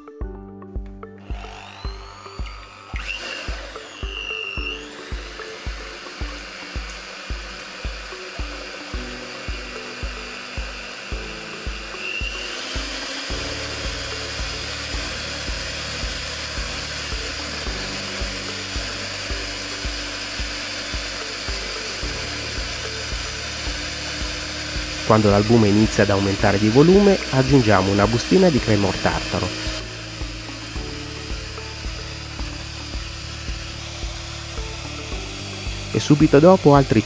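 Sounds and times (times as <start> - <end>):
background music with steady beat: 0.0 - 37.0
electric hand mixer whirring: 0.0 - 37.0.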